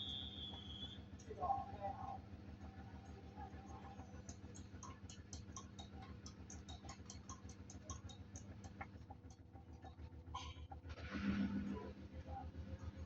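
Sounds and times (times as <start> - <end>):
washing machine churning hum: 0.0 - 13.0.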